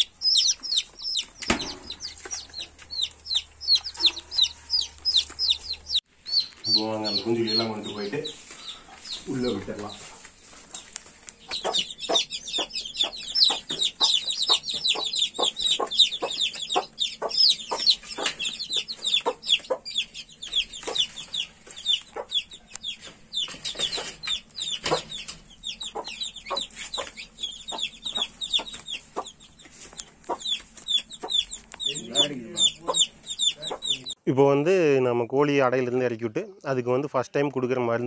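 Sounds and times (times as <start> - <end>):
hen clucking: 0.0 - 10.4, 11.3 - 34.2
chicks cheeping: 0.0 - 34.2.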